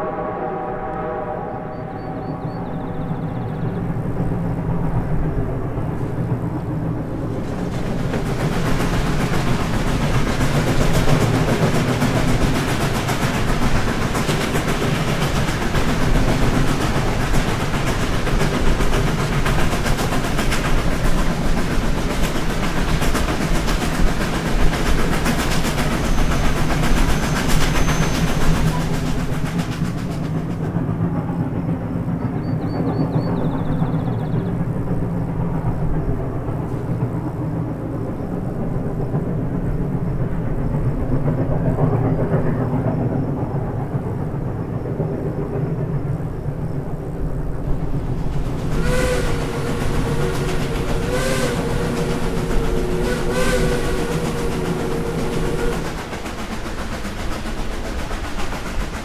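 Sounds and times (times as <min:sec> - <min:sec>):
steam locomotive chugging: 0:00.0 - 0:59.0.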